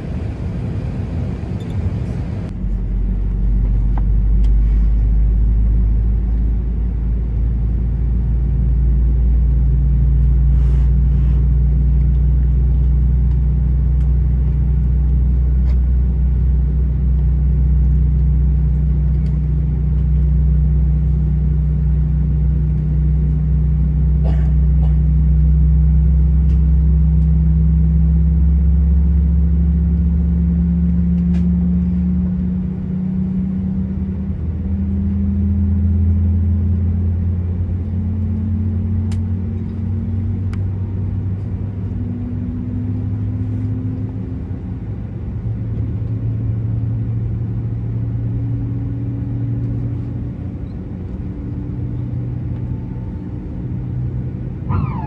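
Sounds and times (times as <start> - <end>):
jet engines during takeoff: 0.0 - 55.0.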